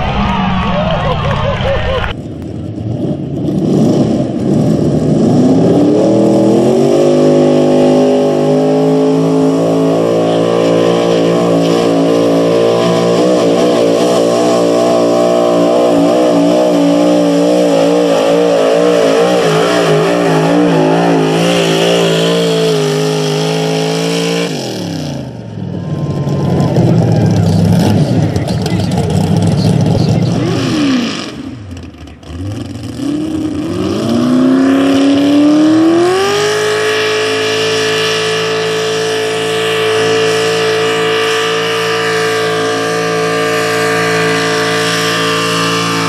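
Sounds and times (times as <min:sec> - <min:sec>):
truck engine at full throttle: 0:00.0 - 0:46.0.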